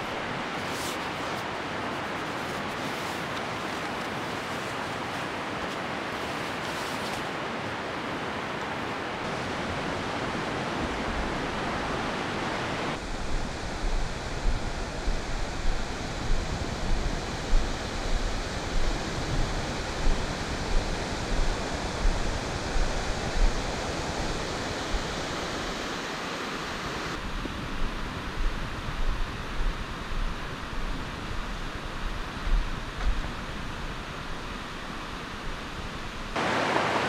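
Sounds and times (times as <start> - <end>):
roar of white water rapids: 0.0 - 27.2, 29.8 - 37.0.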